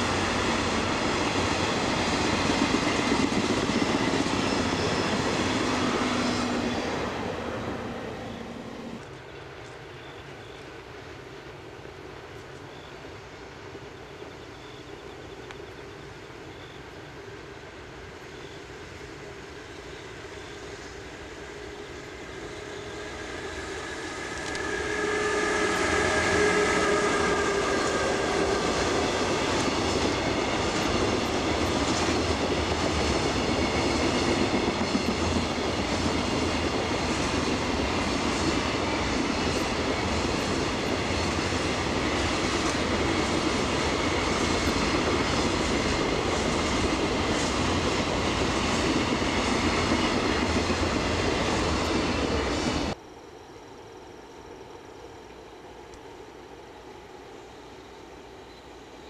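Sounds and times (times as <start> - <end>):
electric locomotive whine: 0.0 - 59.0.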